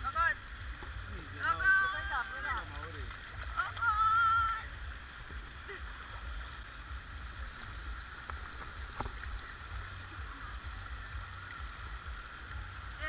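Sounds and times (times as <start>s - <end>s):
low uneven rumble: 0.0s - 13.0s
rushing water: 0.0s - 13.0s.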